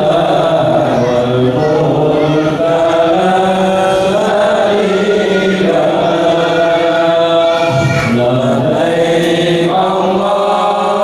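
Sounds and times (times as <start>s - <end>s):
group chanting in unison: 0.0s - 11.0s.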